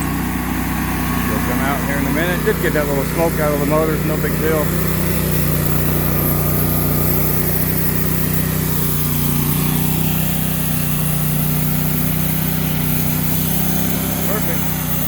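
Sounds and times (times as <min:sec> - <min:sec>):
bandsaw mill engine running: 0:00.0 - 0:15.0.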